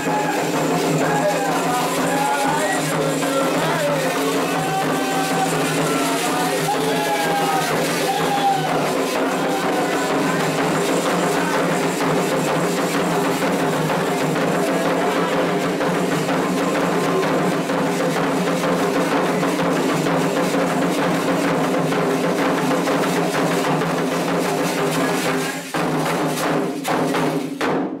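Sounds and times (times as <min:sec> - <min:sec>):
hand drums playing a steady rhythm: 0:00.0 - 0:28.0.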